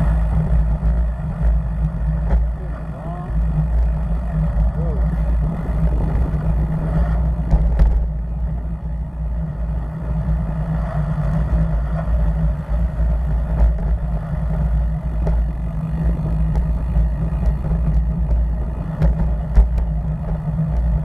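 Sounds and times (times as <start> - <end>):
wind and road rumble: 0.0 - 21.0.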